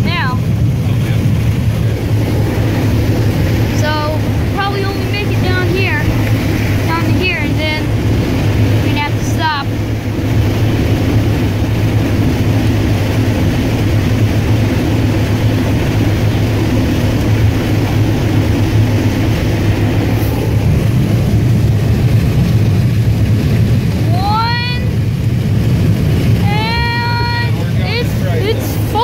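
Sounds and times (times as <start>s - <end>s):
combine harvester engine drone: 0.0s - 29.0s.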